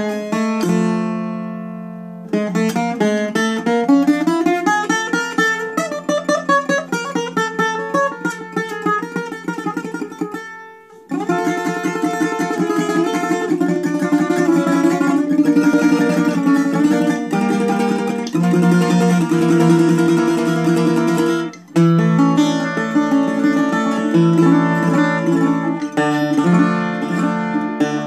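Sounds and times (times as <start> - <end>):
bouzouki picking: 0.0 - 28.0.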